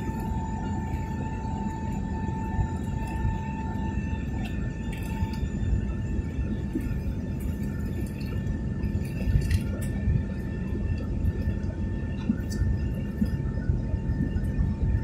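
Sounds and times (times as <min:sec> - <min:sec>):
airliner engine rumble: 0:00.0 - 0:15.0
thin steady whine: 0:00.0 - 0:15.0.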